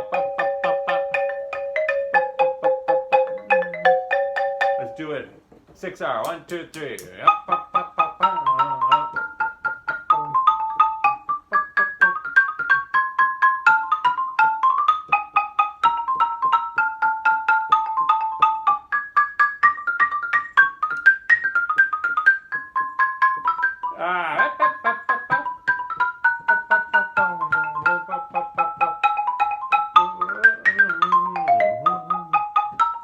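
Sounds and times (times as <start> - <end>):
xylophone ragtime melody: 0.0 - 33.0.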